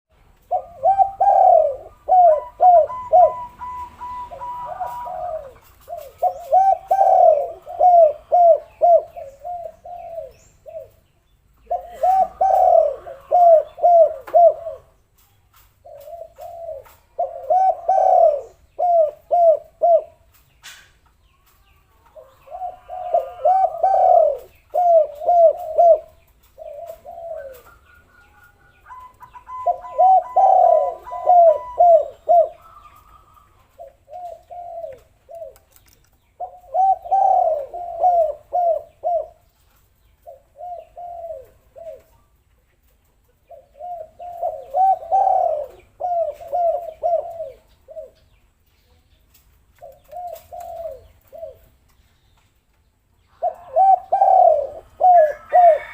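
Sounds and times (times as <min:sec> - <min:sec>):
doves cooing: 0:00.4 - 0:11.0, 0:11.6 - 0:15.0, 0:15.8 - 0:20.4, 0:22.0 - 0:42.4, 0:43.3 - 0:48.3, 0:49.8 - 0:51.9, 0:53.3 - 0:55.9.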